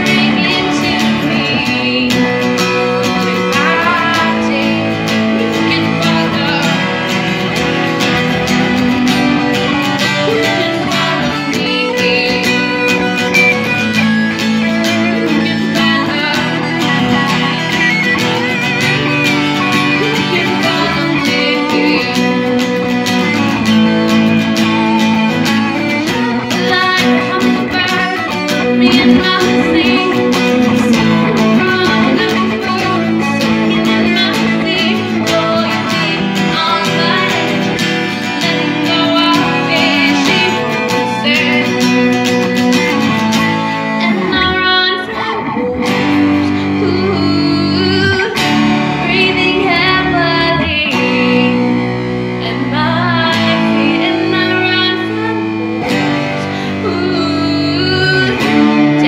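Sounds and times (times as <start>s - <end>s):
guitar band music: 0.0s - 59.0s.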